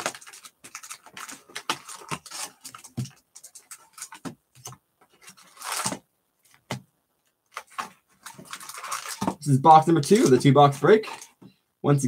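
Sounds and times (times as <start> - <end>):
card packs rustling and tapping: 0.0 - 6.9, 7.5 - 11.6.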